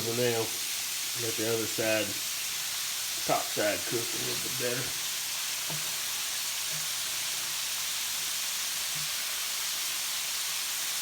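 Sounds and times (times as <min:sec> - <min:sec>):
chicken frying in hot grease: 0:00.0 - 0:11.0.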